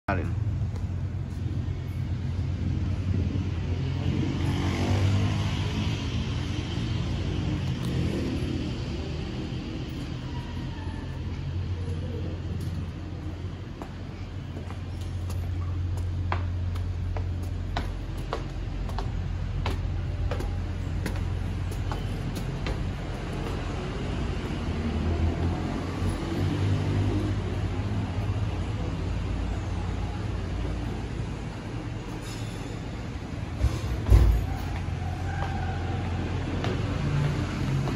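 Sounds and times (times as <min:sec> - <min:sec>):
vehicle engine rumble: 0:00.1 - 0:37.9.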